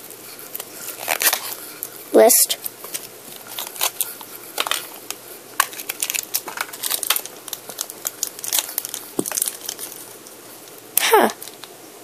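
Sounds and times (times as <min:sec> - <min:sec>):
plastic wrapping crinkling: 0:00.2 - 0:02.0, 0:02.6 - 0:11.7.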